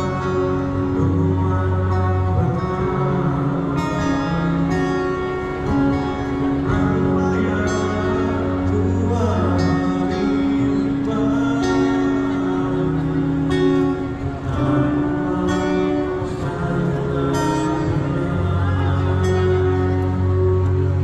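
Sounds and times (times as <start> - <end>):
held low notes: 0.0 - 21.0
plucked string melody: 0.0 - 21.0.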